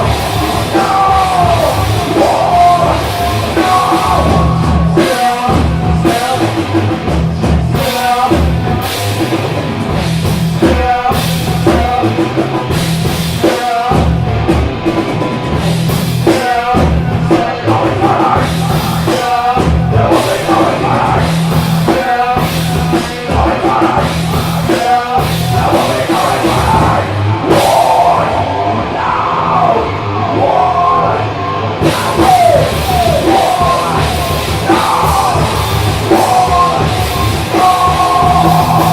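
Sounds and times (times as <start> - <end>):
person singing: 0.0 - 9.0, 10.6 - 12.7, 16.2 - 38.9
drum kit beat: 0.0 - 29.8, 31.8 - 38.9
live rock band: 0.0 - 38.9.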